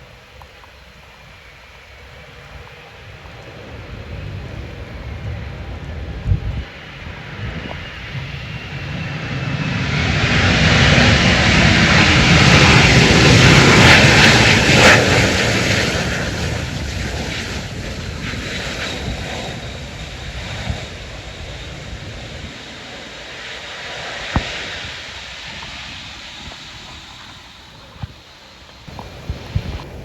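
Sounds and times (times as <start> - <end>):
airliner engine passing: 0.0 - 30.0.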